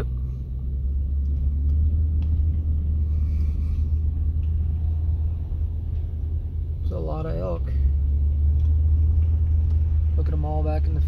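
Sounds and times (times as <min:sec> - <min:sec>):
vehicle rumbling on dirt road: 0:00.0 - 0:11.0.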